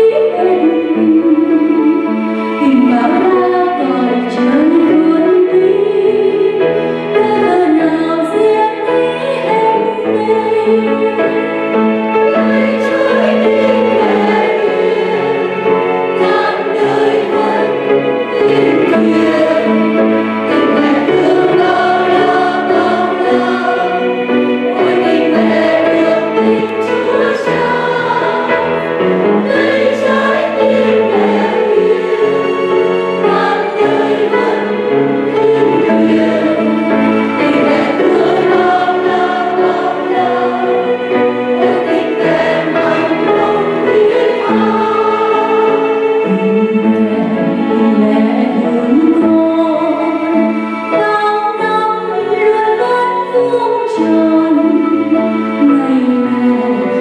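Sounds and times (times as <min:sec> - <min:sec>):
mixed choir singing a hymn: 0:00.0 - 0:57.0.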